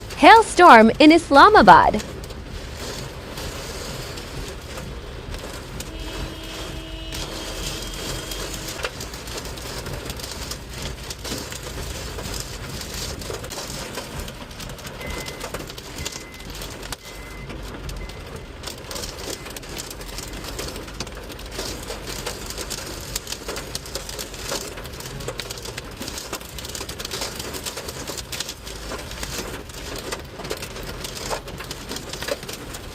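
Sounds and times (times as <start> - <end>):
hailstones pelting down: 0.0 - 32.9.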